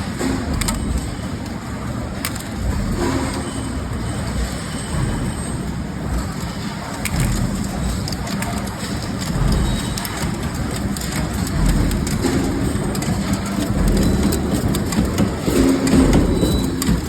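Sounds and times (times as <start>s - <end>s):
forging machinery hum and rumble: 0.0s - 17.0s
light mechanical clicks and knocks: 0.0s - 17.0s.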